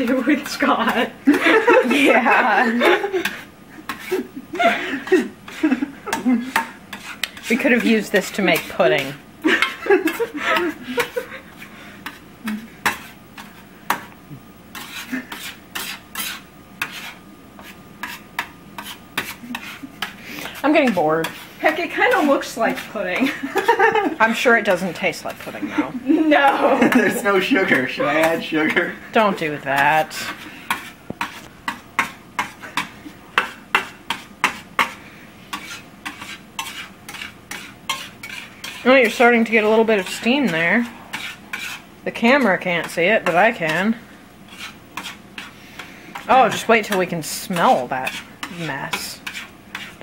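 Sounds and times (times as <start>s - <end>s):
spatula scraping a metal skillet: 0.0s - 4.3s, 5.0s - 14.1s, 14.7s - 50.0s.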